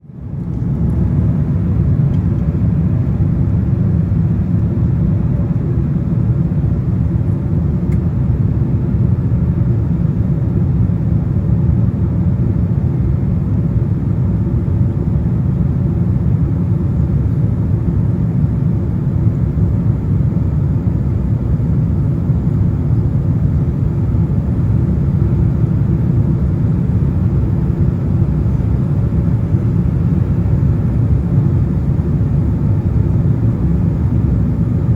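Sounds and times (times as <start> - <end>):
aircraft cabin engine rumble: 0.1 - 34.9.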